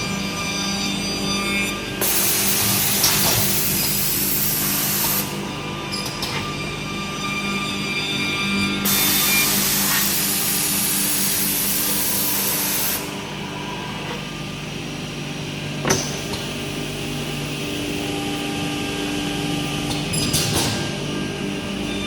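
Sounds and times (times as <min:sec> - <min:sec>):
woodworking machinery hum: 0:00.0 - 0:22.0.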